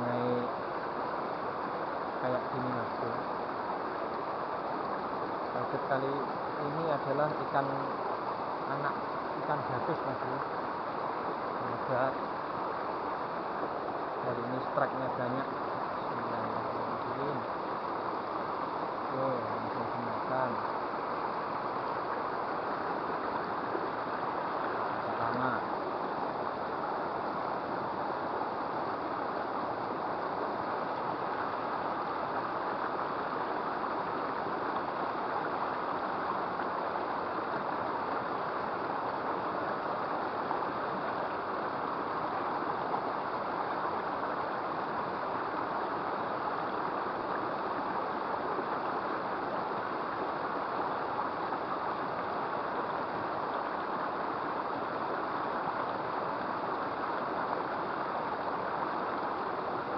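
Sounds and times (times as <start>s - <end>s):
small river flowing: 0.0s - 59.9s.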